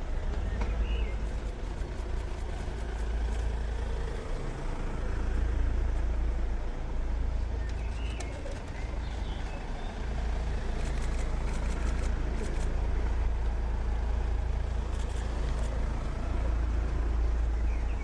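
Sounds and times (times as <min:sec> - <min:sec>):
cars passing with low rumble: 0:00.0 - 0:18.0.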